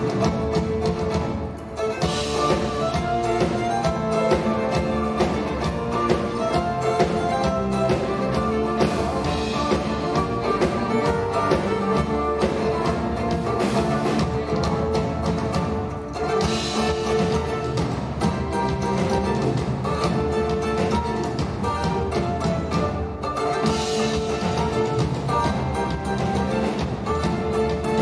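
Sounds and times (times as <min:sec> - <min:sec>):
acoustic guitar: 0:00.0 - 0:28.0
cello: 0:00.0 - 0:28.0
drum kit beat: 0:00.0 - 0:28.0
violin: 0:00.0 - 0:28.0.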